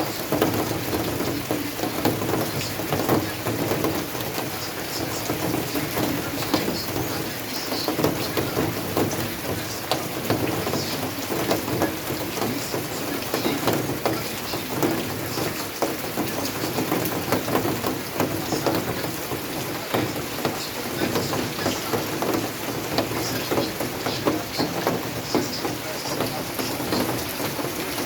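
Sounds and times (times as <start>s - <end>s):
rain drops on hard surface: 0.0s - 28.0s.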